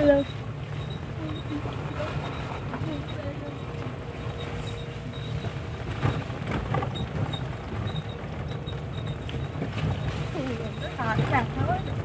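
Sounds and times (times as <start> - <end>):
vehicle engine and road noise: 0.0 - 12.0
knocks and rattles from bumps: 2.1 - 12.0.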